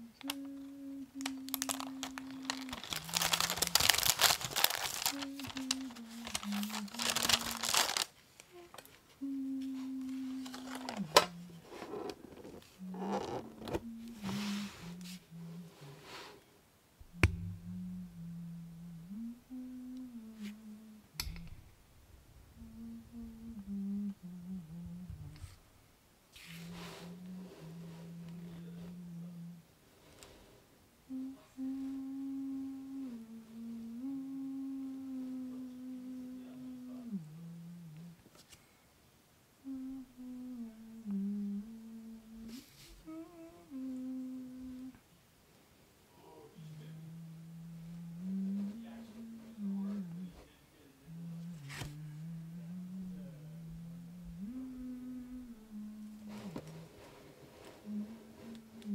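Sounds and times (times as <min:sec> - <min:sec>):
person humming: 0:00.0 - 0:16.4, 0:17.0 - 0:25.7, 0:26.4 - 0:29.8, 0:31.0 - 0:38.4, 0:39.6 - 0:45.1, 0:46.2 - 0:58.9.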